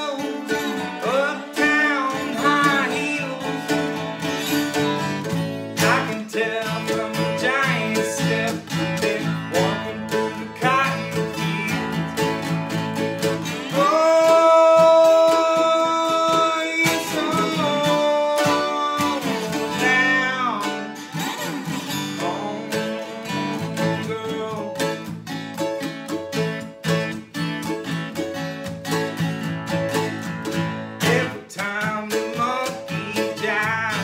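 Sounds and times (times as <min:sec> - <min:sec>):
man singing: 0:00.0 - 0:25.7, 0:29.9 - 0:34.0
acoustic guitar and mandolin: 0:00.0 - 0:34.0.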